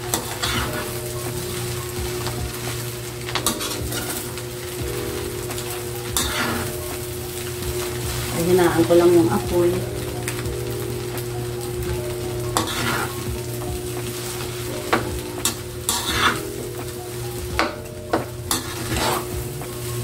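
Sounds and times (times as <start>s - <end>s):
spoon scraping wok: 0.0s - 10.4s, 12.3s - 20.0s
rice sizzling: 0.0s - 20.0s.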